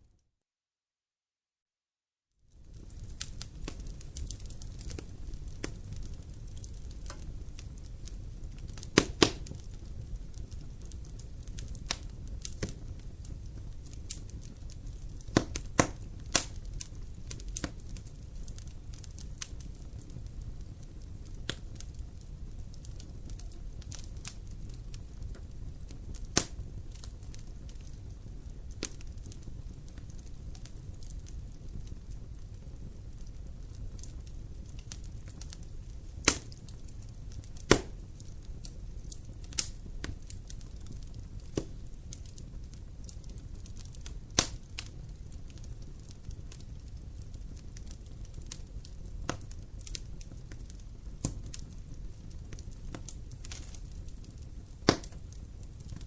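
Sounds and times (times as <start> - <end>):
wood fire crackling: 2.4 - 56.0
fire snapping loudly: 2.6 - 56.0.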